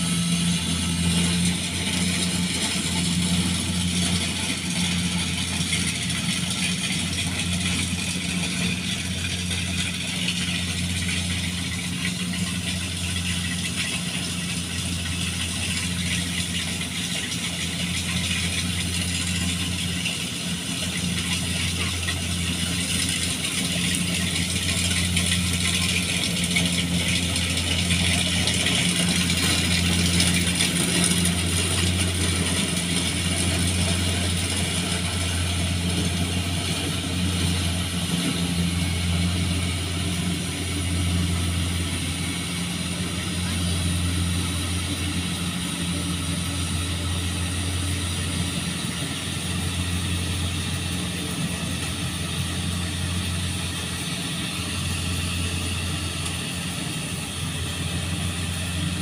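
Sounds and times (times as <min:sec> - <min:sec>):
diesel engine humming: 0:00.0 - 0:59.0
harvesting machinery rattling: 0:00.0 - 0:59.0.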